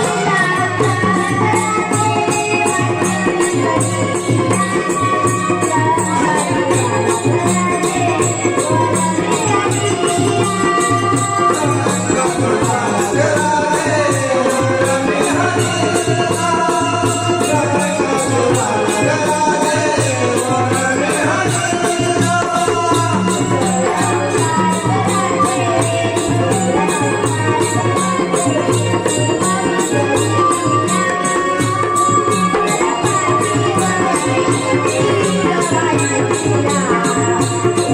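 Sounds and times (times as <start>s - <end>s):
hand drum beat: 0.0s - 37.9s.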